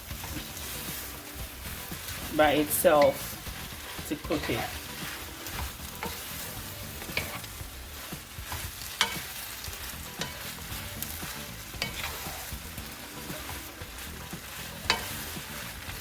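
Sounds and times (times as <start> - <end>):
cabbage sizzling in a pan: 0.0 - 16.0
utensil clacking against pan: 1.6 - 16.0.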